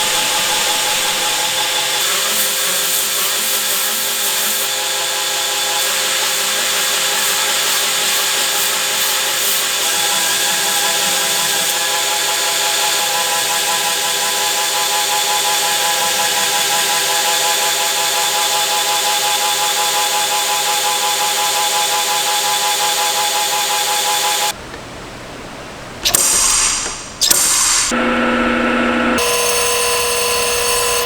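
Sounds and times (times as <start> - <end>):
electric power tool running: 0.0 - 24.6, 26.1 - 31.0.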